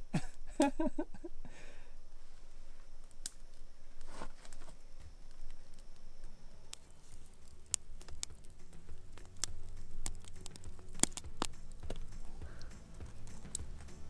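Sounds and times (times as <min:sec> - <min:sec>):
campfire crackling and popping: 0:00.1 - 0:14.0.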